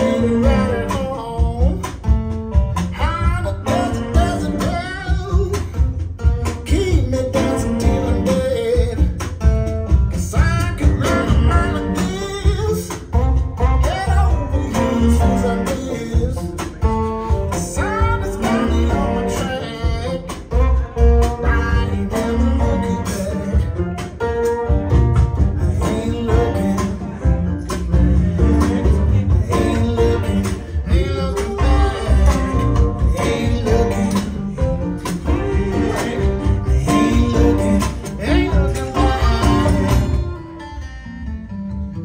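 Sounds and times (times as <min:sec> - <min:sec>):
song with singing and guitar: 0:00.0 - 0:42.0.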